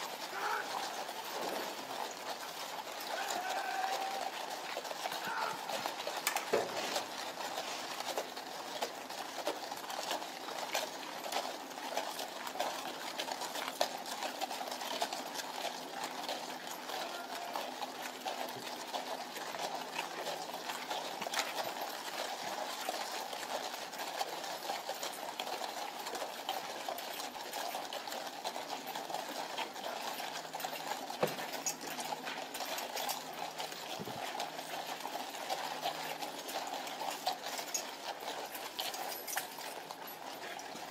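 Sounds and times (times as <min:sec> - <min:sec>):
horse hooves and harness jingling: 0:00.0 - 0:40.9.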